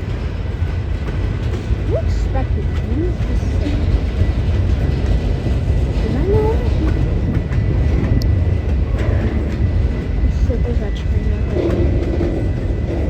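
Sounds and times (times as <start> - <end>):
train clicks: 0.0 - 13.0
train rumbling past: 0.0 - 13.0.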